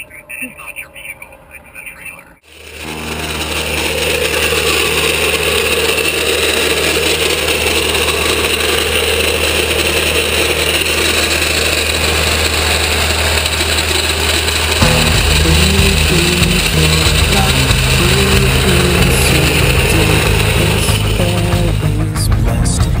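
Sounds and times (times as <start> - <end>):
vehicle road noise and hum: 0.0 - 22.9
floor jack rolling on road: 2.4 - 23.0.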